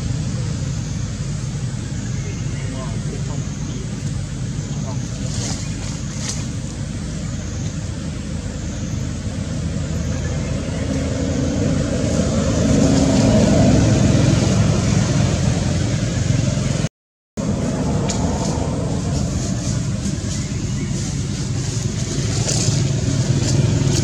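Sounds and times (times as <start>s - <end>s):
vehicle engine rumble passing: 0.0s - 24.0s.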